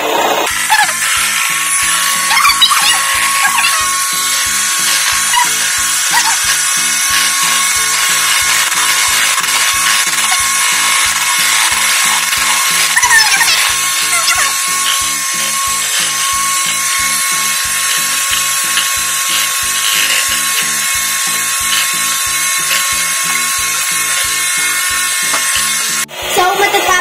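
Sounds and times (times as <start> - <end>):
electric hand mixer whining: 0.0 - 27.0.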